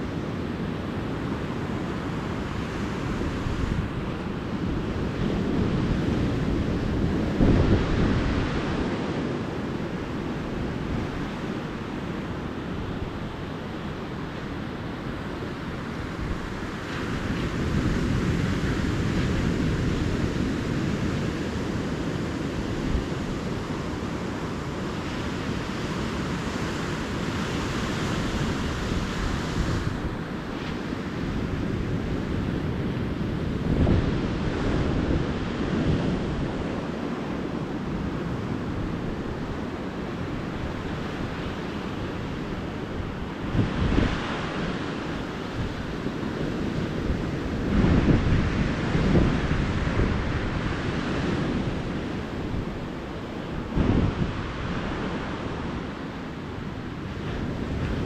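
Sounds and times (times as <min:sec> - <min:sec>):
ocean surf on a beach: 0:00.0 - 0:58.0
wind buffeting microphone: 0:00.0 - 0:58.0.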